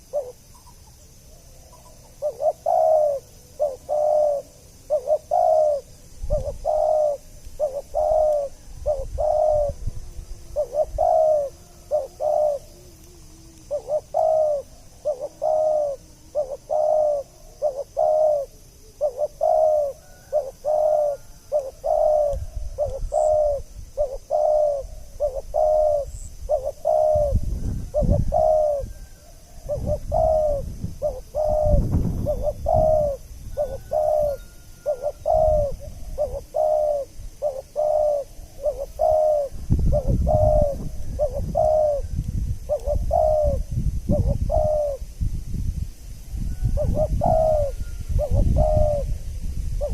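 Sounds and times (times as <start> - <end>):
dove cooing: 0.0 - 45.2, 46.4 - 49.9.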